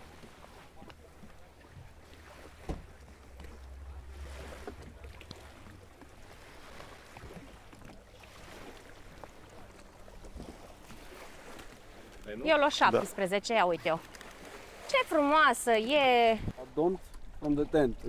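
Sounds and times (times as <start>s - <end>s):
small waves lapping: 0.0s - 18.0s.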